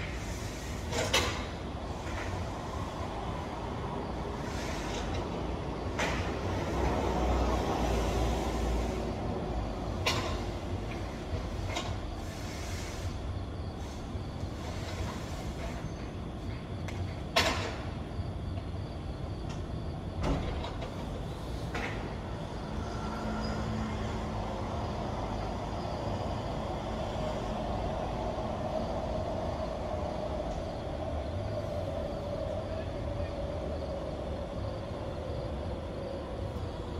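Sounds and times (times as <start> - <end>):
trolley rolling rumble: 0.0 - 36.9.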